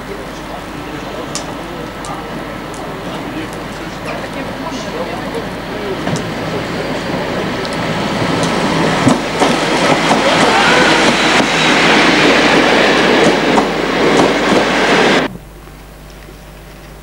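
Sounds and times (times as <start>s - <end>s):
train coaches rumbling: 0.0s - 15.4s.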